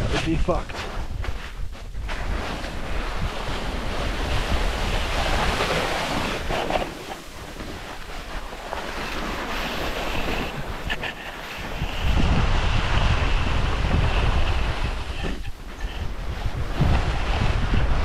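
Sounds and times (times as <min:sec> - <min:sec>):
wind buffeting microphone: 0:00.0 - 0:18.0
snow hissing under sliding body: 0:02.2 - 0:17.7.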